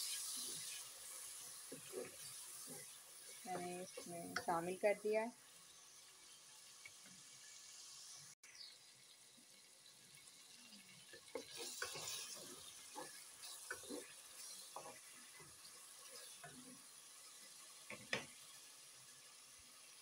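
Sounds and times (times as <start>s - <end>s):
faint frying sizzle: 0.0s - 20.0s.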